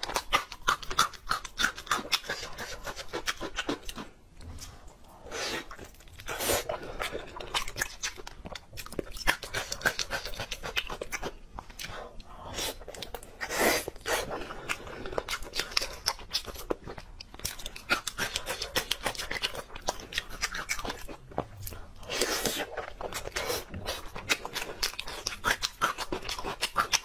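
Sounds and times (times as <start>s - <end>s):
mouth chewing wet smacks: 0.0s - 4.2s, 5.7s - 27.0s.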